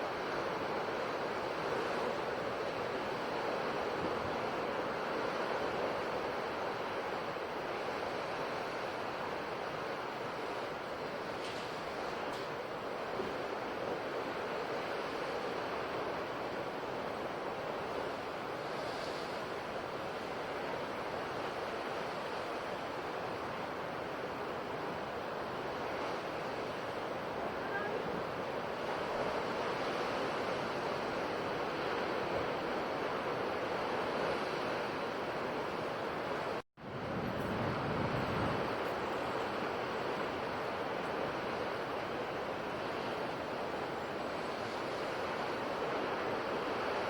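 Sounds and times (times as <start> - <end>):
ocean waves on a shore: 0.0 - 47.0.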